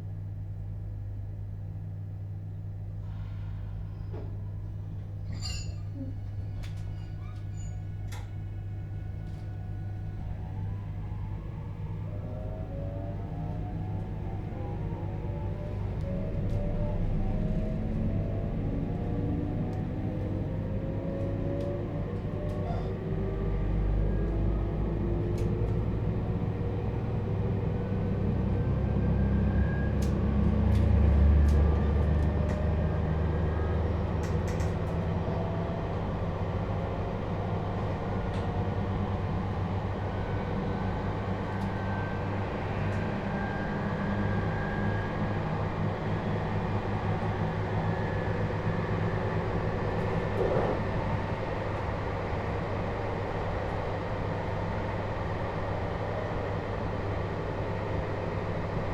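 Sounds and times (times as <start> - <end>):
train wheel and rail rumble: 0.0 - 58.9.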